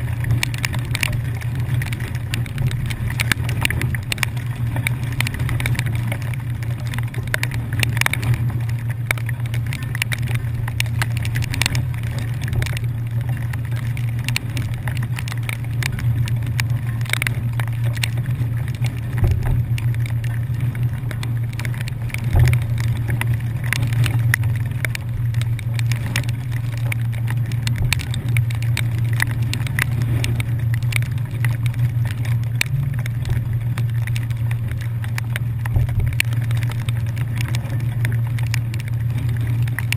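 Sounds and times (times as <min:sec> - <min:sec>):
ferry engines droning: 0:00.0 - 0:39.9
light ticks and knocks: 0:00.1 - 0:39.9.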